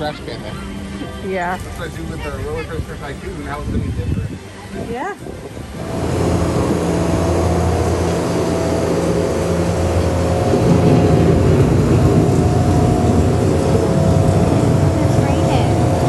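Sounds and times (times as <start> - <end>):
loud mechanical drone: 0.0 - 16.0.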